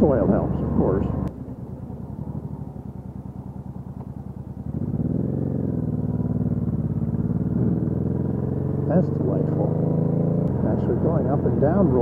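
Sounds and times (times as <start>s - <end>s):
motorcycle engine pulling away: 0.0s - 12.0s.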